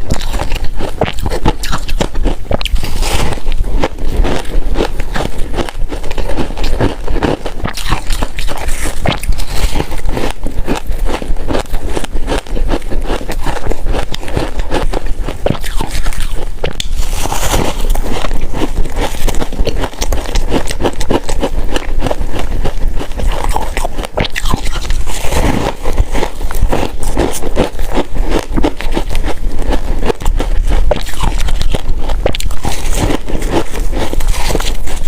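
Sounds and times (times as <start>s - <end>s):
crunching frost: 0.0s - 35.0s.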